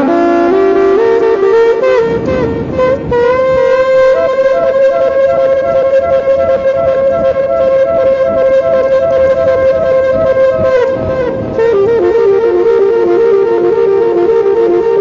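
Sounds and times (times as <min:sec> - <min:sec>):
wind instrument long note: 0:00.0 - 0:15.0.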